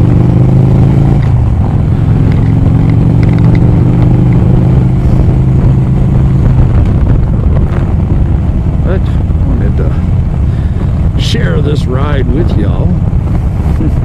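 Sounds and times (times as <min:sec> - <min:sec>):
motorcycle engine running: 0:00.0 - 0:14.0
wind rush: 0:00.0 - 0:14.0.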